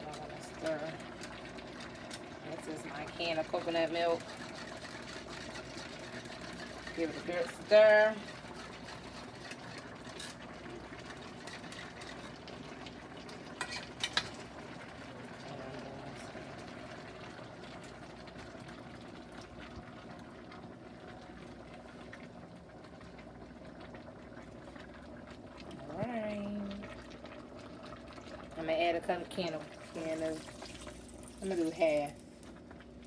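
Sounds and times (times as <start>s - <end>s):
liquid pouring: 0.0s - 33.0s
sizzling and bubbling pot: 0.0s - 33.0s.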